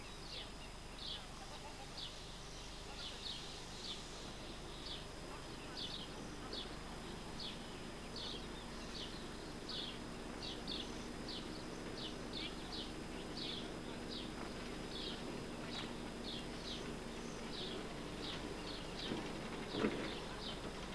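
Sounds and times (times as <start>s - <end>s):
faint low hum: 0.0s - 20.9s
outdoor background noise: 0.0s - 20.9s.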